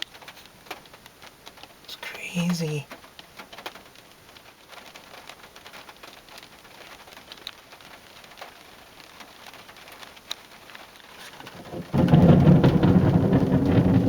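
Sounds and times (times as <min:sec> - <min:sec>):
raindrops ticking on a car: 0:00.0 - 0:14.0.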